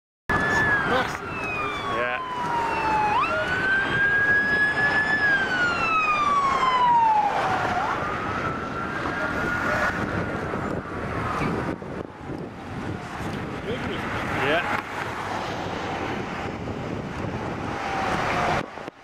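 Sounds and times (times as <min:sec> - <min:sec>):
siren wailing: 0:00.3 - 0:13.2, 0:14.5 - 0:18.8.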